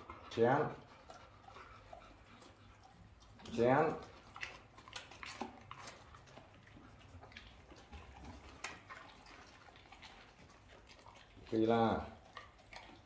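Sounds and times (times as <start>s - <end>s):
dogs chewing food: 0.0s - 13.0s.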